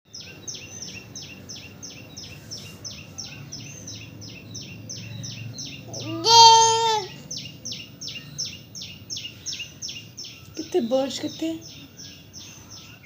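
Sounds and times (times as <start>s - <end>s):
bird chirping: 0.1s - 13.0s.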